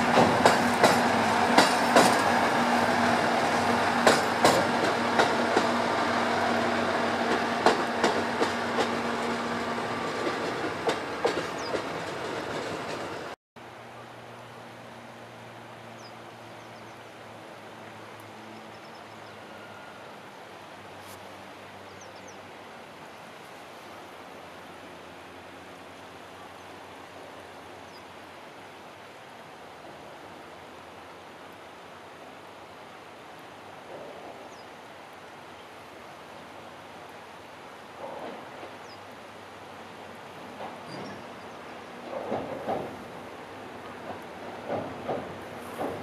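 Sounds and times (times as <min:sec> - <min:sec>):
river water rushing over stones: 0:00.0 - 0:46.0.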